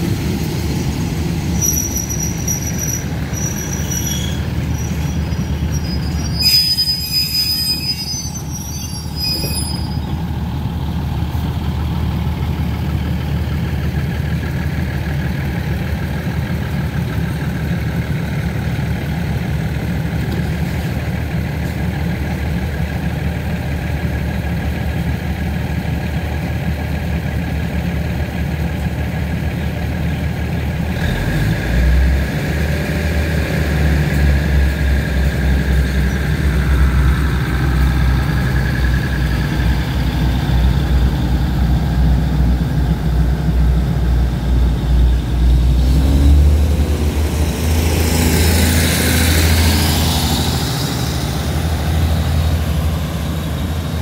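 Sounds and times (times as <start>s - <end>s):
diesel train engine: 0.0s - 54.0s.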